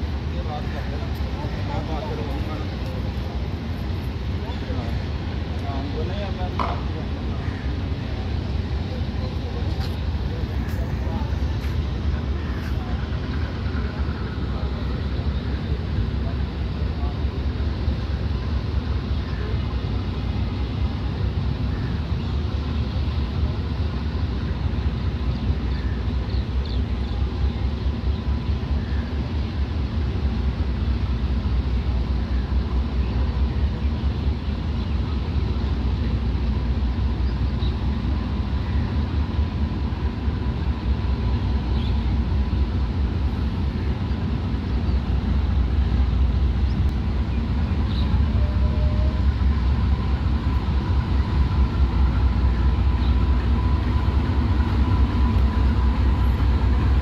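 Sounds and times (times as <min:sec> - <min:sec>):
diesel locomotive rumbling: 0:00.0 - 0:57.0.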